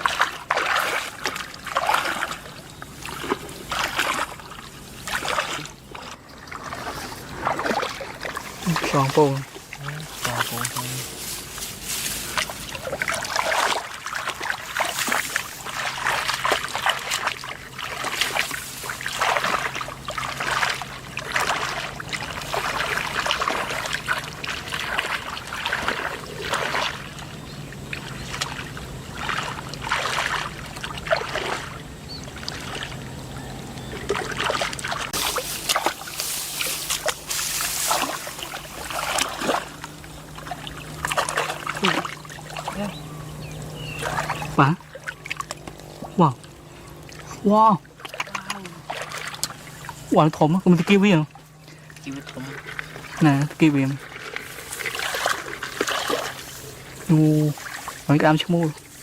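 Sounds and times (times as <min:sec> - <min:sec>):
shallow water splashing: 0:00.0 - 0:59.0
steady low hum: 0:00.0 - 0:59.0.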